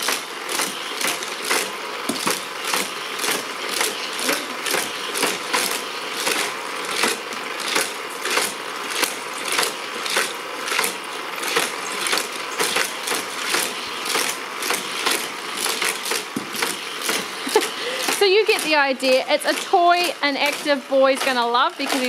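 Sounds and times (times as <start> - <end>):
motorized boosters whirring: 0.0 - 22.0
toy cars clattering on plastic track: 0.0 - 22.0.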